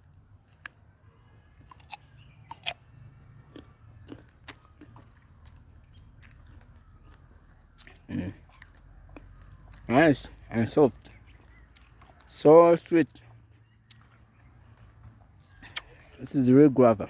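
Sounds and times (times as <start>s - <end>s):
person chewing fruit: 0.1s - 10.5s, 11.1s - 12.3s, 13.1s - 16.3s.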